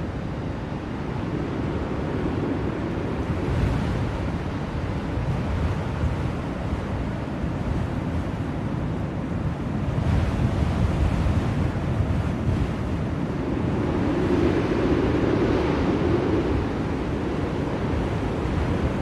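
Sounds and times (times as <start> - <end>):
blizzard wind rushing: 0.0 - 19.0.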